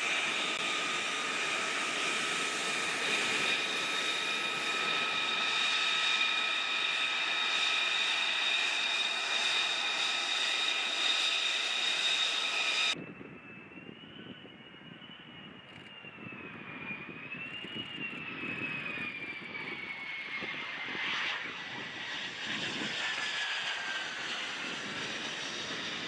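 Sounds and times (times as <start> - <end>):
jet engine whining and roaring: 0.0 - 26.0.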